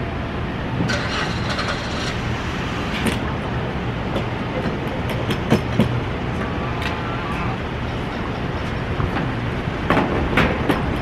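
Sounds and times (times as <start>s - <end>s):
idling engines and traffic rumble: 0.0s - 11.0s.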